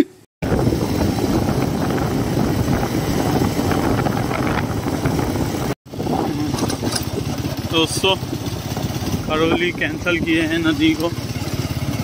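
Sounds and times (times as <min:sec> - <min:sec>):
wind buffeting microphone: 0:00.4 - 0:11.2
motorcycle engine running: 0:00.4 - 0:12.0.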